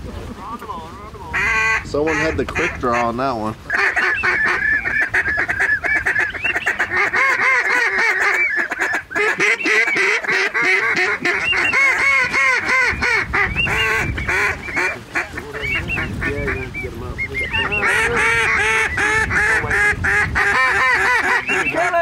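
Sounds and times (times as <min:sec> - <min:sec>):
geese honking: 0:00.2 - 0:22.0.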